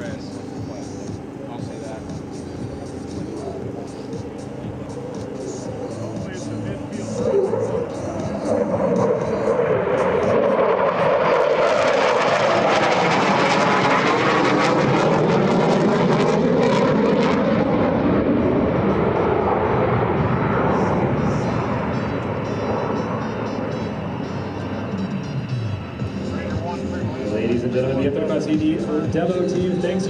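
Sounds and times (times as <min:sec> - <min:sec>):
jet engine roaring past: 0:00.0 - 0:30.0.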